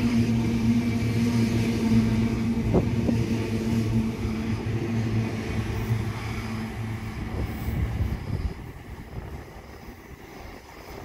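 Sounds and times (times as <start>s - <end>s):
electric train pulling out: 0.0s - 11.0s.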